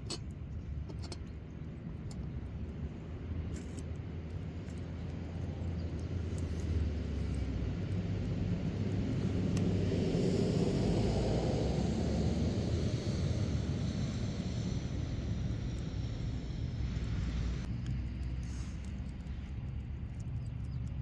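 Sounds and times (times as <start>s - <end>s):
distant engine rumble: 0.0s - 21.0s.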